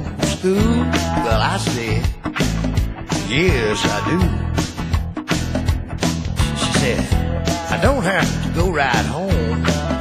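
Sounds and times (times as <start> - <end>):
song with steady beat: 0.0 - 10.0.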